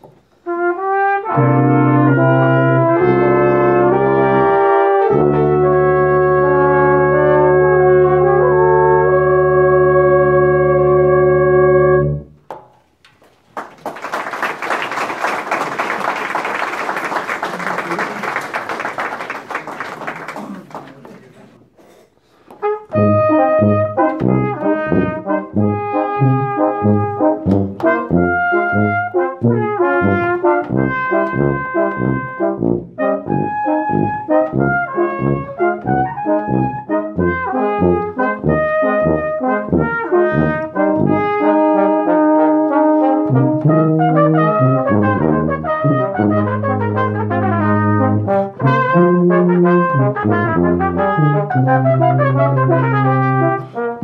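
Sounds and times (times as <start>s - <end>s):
brass ensemble playing: 0.2s - 12.4s, 14.0s - 20.8s, 22.3s - 54.0s.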